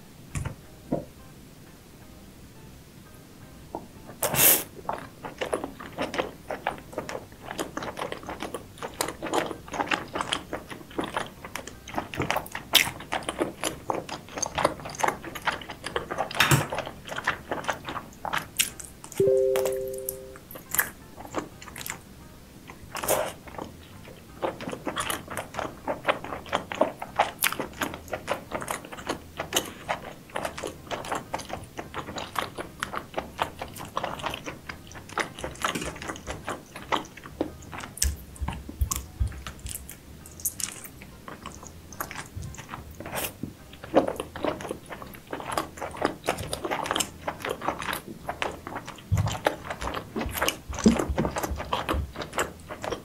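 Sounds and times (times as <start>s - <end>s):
seafood being chewed: 3.9s - 53.0s.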